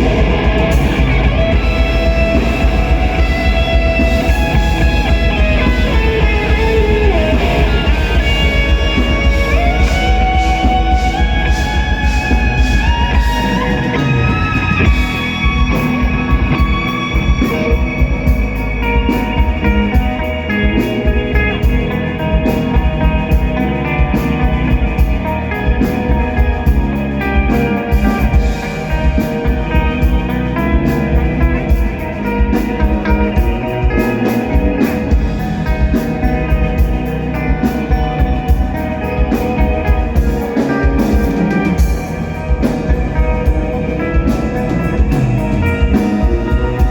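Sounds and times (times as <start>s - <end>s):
bass guitar: 0.0s - 46.9s
distorted electric guitars: 0.0s - 46.9s
drum kit with cymbals: 0.0s - 46.9s.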